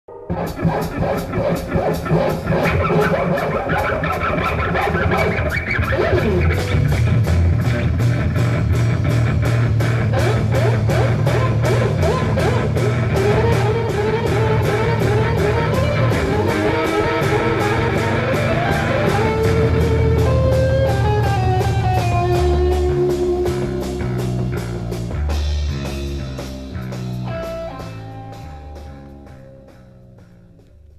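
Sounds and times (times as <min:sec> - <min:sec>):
psychedelic rock instrumental: 0:00.1 - 0:30.6.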